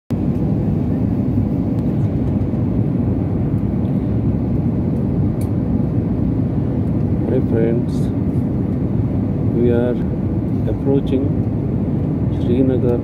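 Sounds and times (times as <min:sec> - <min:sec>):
jet engine and airflow rumble: 0:00.1 - 0:13.0.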